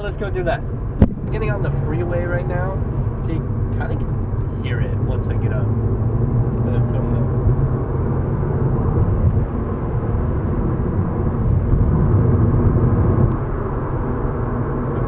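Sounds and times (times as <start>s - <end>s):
road and engine drone in car: 0.0s - 15.0s.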